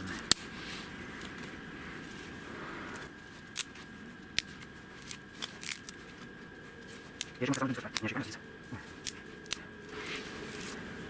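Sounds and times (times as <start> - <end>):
twigs and needles rustling: 0.0 - 11.0
twigs snapping: 0.0 - 11.0.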